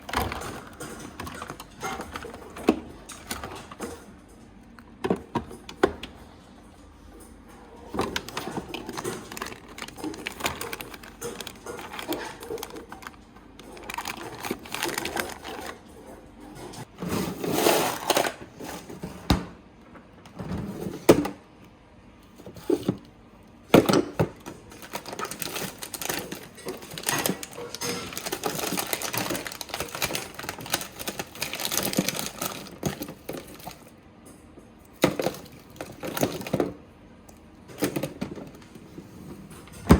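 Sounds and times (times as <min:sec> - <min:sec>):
plastic containers clacking and rustling: 0:00.0 - 0:06.2, 0:07.0 - 0:21.4, 0:22.2 - 0:39.9.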